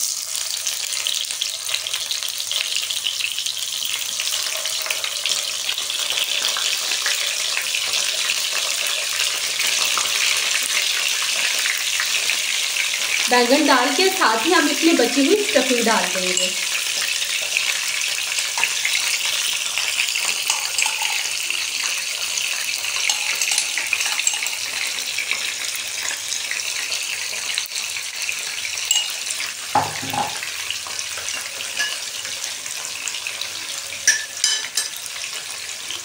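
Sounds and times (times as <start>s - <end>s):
food sizzling in hot oil: 0.0s - 36.0s.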